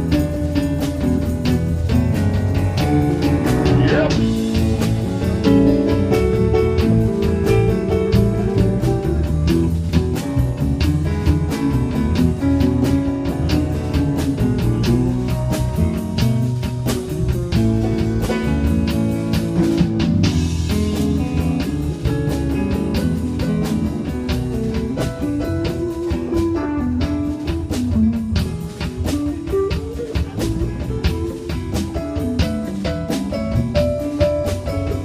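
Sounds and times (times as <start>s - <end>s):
bass: 0.0s - 35.0s
drum kit beat: 0.0s - 35.0s
electric guitar lines: 0.0s - 35.0s.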